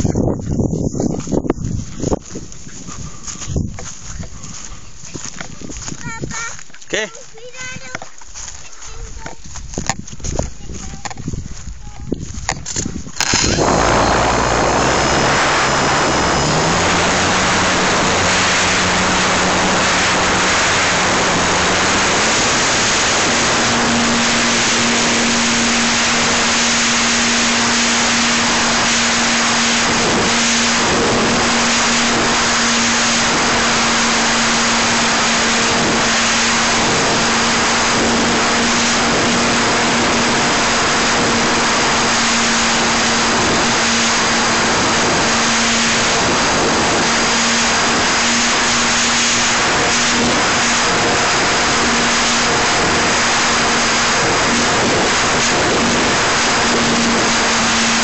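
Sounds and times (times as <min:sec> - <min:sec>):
small aircraft engine: 0:00.0 - 0:58.0
wind on microphone: 0:00.0 - 0:58.0.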